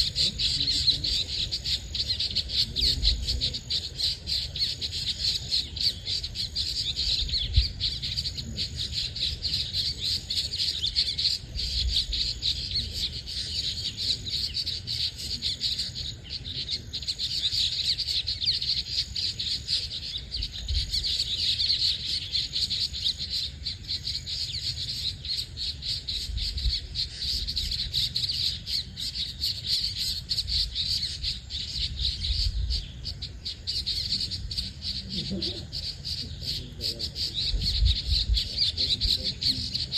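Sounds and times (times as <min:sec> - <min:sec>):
birds chirping chorus: 0:00.0 - 0:39.9.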